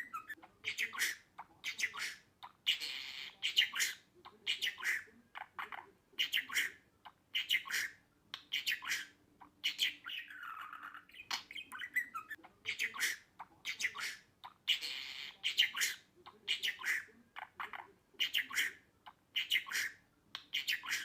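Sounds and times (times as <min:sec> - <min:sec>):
budgerigar chirping and squawking: 0:00.0 - 0:21.0.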